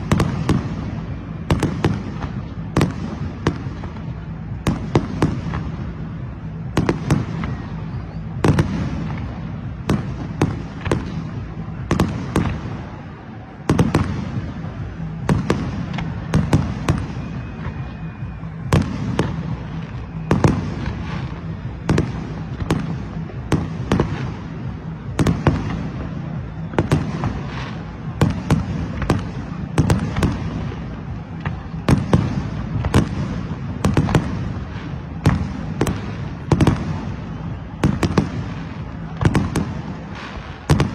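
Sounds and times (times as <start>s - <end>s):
distant fireworks rumble: 0.0s - 40.9s
fireworks bangs: 0.0s - 40.9s.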